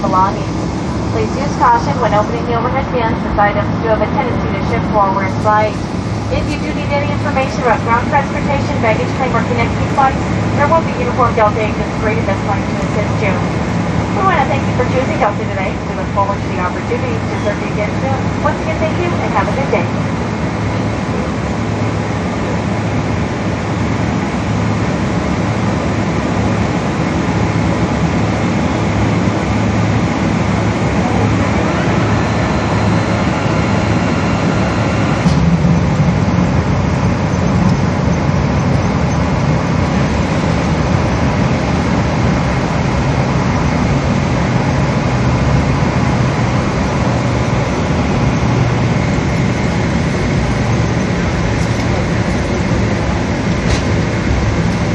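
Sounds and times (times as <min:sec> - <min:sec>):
faint high whine: 0:00.0 - 0:54.9
jet engine cabin rumble: 0:00.0 - 0:54.9.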